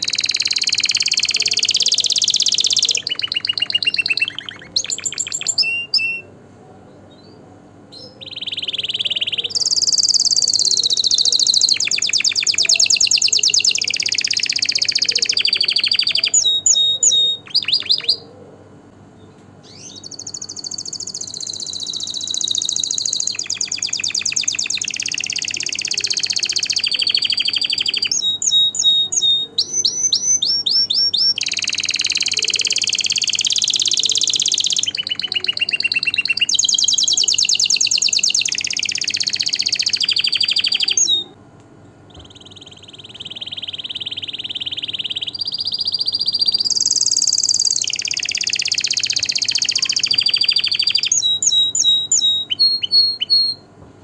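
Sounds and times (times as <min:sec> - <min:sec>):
canary singing trills: 0:00.0 - 0:53.8.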